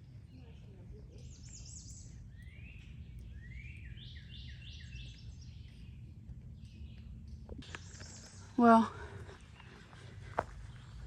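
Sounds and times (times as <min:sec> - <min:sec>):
low background rumble: 0:00.0 - 0:11.0
songbird singing: 0:00.0 - 0:11.0.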